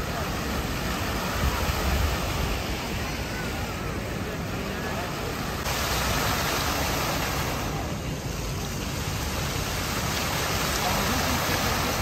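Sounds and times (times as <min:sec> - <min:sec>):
fountain jets splashing water: 0:00.0 - 0:12.0.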